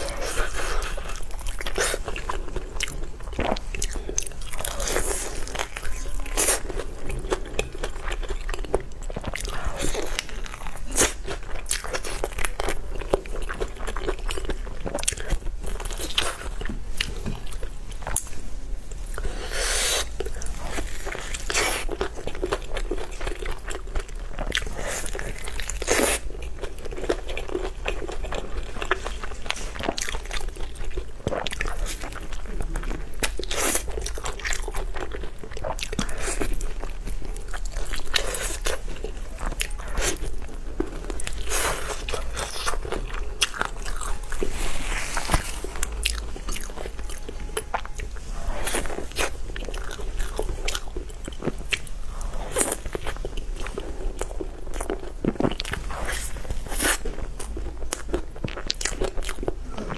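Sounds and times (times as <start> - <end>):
crunchy chewing of fried chicken: 0.0 - 18.4, 19.0 - 59.9
steady low hum: 0.0 - 59.9.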